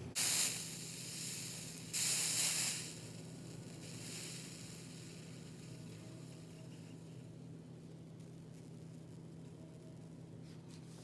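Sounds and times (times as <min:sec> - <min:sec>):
solder sizzling: 0:00.0 - 0:10.2
low steady hum: 0:00.0 - 0:11.0.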